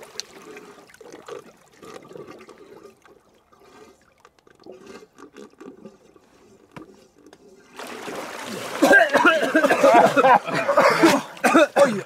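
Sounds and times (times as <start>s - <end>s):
water sloshing in hot tub: 0.0s - 12.0s.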